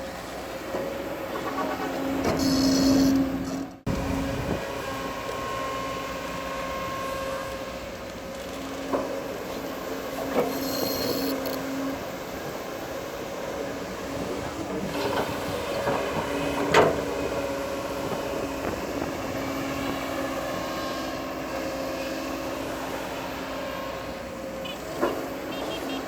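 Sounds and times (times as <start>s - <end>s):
bulldozer diesel engine running: 0.1s - 26.0s.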